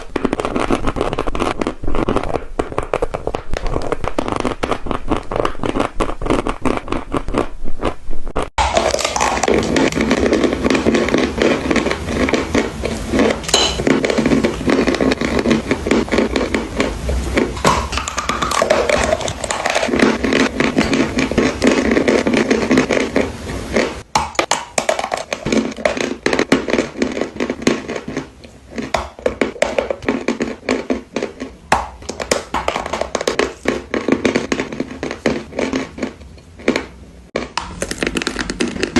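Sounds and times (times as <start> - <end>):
chalk being chewed crunching: 0.0 - 24.0, 25.1 - 38.9.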